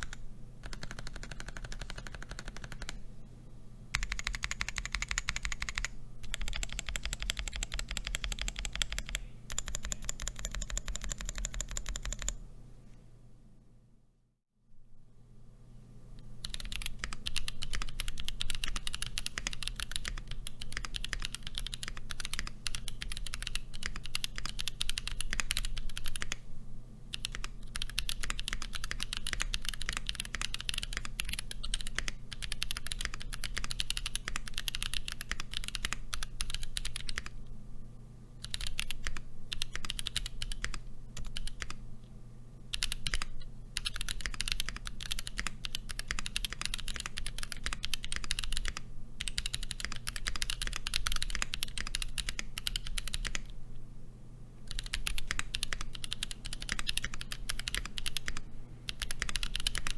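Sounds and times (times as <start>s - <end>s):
mechanical keyboard typing: 0.0s - 3.0s, 3.9s - 12.4s, 16.4s - 26.4s, 27.1s - 37.3s, 38.4s - 41.8s, 42.7s - 53.5s, 54.7s - 59.9s.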